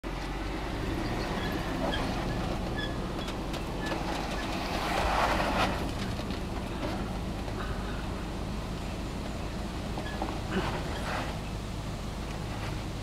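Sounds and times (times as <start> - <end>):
car engine running at low revs: 0.0 - 13.0
tyres on dirt and stones: 0.0 - 13.0.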